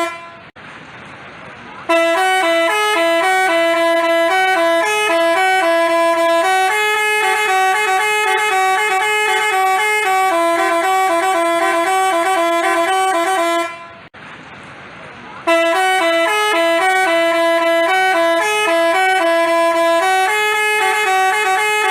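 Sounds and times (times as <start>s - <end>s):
bus horn playing buzzy tune: 0.0s - 0.6s, 1.8s - 14.1s, 15.4s - 21.9s.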